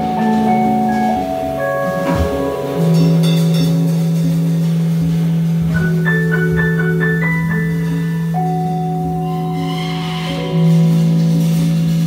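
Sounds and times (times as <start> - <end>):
bell-like keyboard notes: 0.0 - 12.0.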